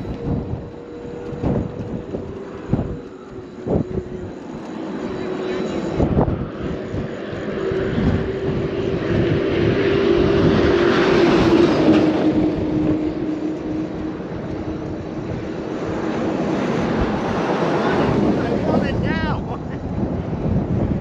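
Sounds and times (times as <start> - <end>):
highway traffic: 0.0 - 21.0.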